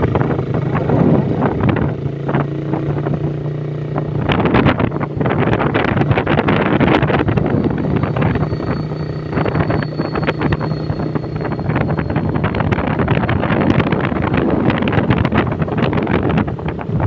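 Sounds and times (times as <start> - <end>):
motorcycle engine hum: 0.0 - 17.0
wind buffeting microphone: 0.0 - 17.0.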